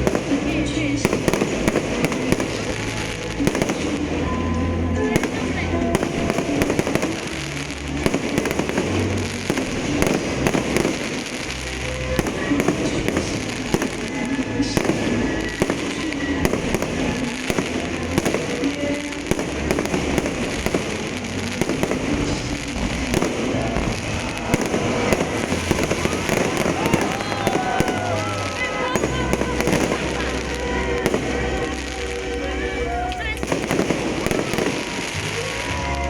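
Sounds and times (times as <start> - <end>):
fireworks cracking and popping: 0.0 - 36.0
low fireworks booms: 0.0 - 36.0.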